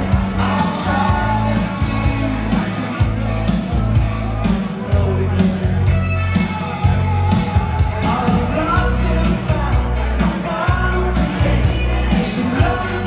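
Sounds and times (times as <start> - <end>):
pop-rock song with vocals: 0.0 - 13.0.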